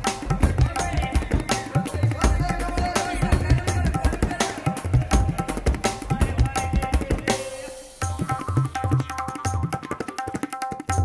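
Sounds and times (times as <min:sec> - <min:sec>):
tabla playing fast rhythm: 0:00.0 - 0:11.0.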